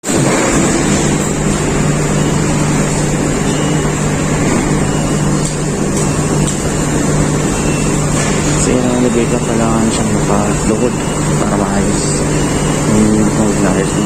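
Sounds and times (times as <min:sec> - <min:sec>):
loud mechanical hum: 0:00.0 - 0:14.0.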